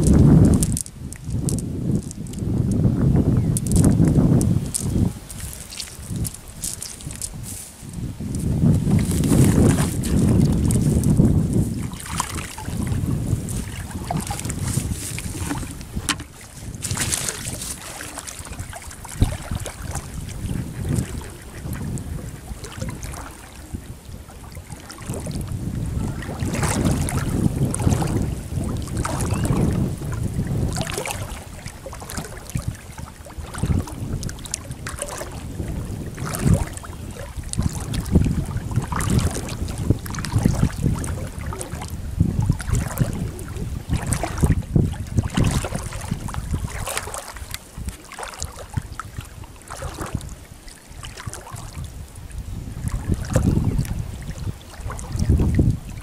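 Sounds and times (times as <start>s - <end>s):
wading through shallow water: 0.0s - 56.0s
wind rumbling on microphone: 0.0s - 56.0s.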